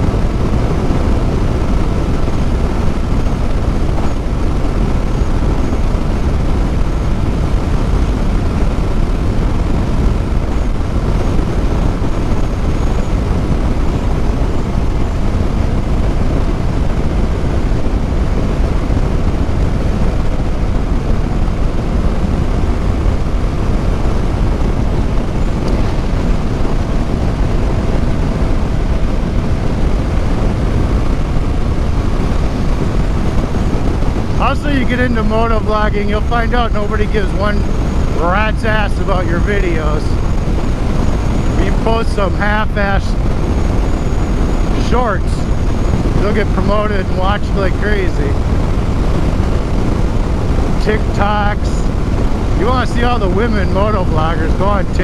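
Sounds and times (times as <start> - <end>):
faint steady whine: 0.0 - 55.0
wind rushing over microphone: 0.0 - 55.0.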